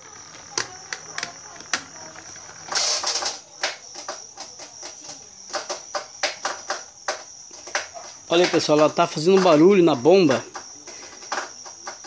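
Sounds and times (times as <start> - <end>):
drain pump clicking and rattling: 0.0 - 12.0.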